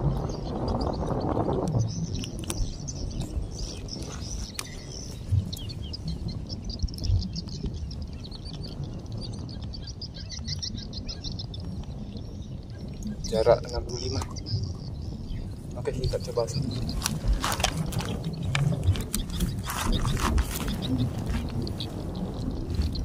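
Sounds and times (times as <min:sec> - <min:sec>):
birds chirping: 0:00.0 - 0:23.0
wind rumble on microphone: 0:00.0 - 0:23.0.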